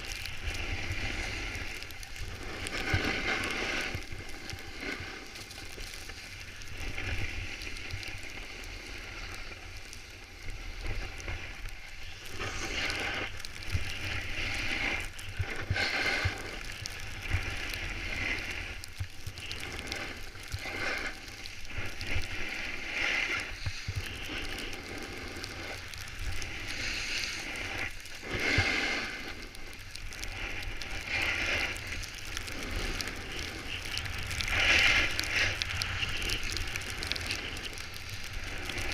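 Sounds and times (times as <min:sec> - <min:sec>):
snowboard scraping packed snow: 0:00.0 - 0:38.9
wind rumble on microphone: 0:00.0 - 0:38.9.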